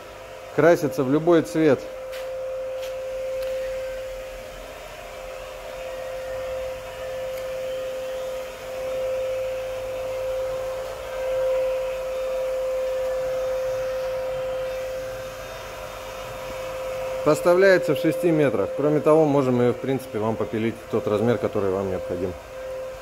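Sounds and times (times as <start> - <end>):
machine drone humming: 0.0 - 23.0.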